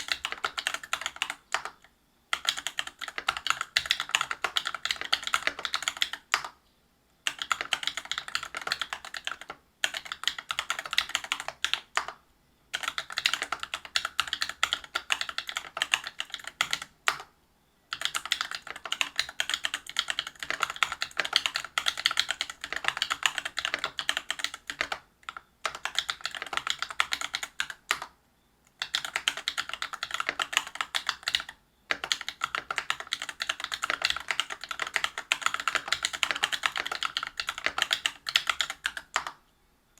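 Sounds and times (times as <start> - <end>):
mechanical keyboard typing: 0.0 - 6.6, 7.3 - 17.3, 17.9 - 28.1, 28.7 - 39.4.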